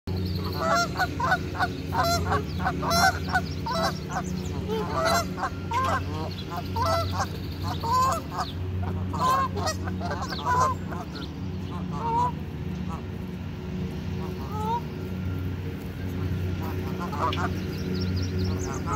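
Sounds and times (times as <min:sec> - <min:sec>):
steady low hum: 0:00.1 - 0:18.9
geese honking: 0:00.2 - 0:18.9.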